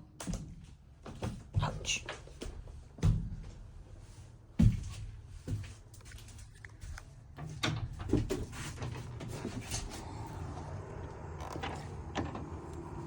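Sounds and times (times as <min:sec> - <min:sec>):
knocks and scuffs inside hull: 0:00.0 - 0:10.7.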